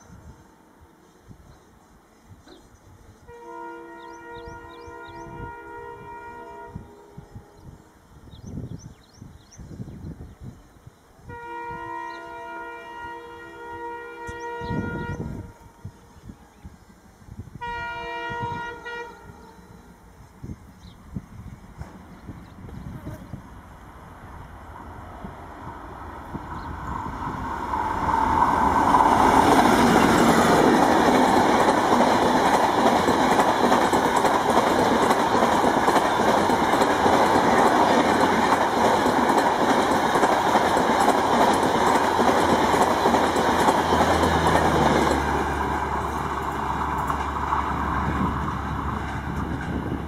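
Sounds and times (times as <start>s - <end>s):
train passing at speed: 0.0s - 50.0s.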